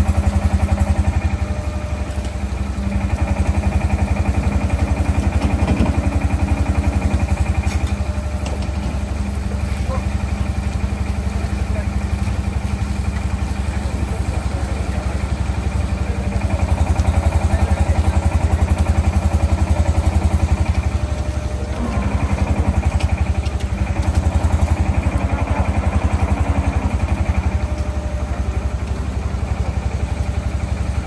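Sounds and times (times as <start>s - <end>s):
engine pulsing: 0.0s - 31.0s.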